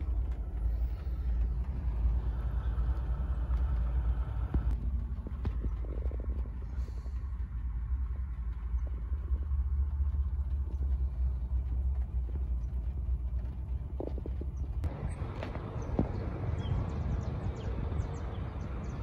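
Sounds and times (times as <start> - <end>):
low gusty rumble: 0.0 - 19.0.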